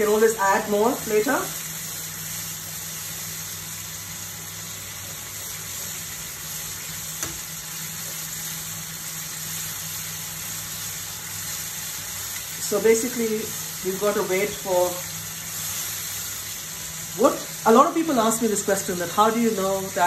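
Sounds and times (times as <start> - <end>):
masala sizzling in a frying pan: 0.0 - 20.0.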